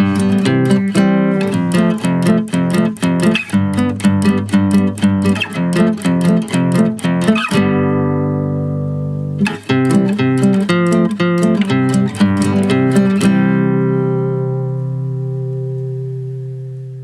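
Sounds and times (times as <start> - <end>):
acoustic guitar plucked and strummed: 0.0 - 17.0.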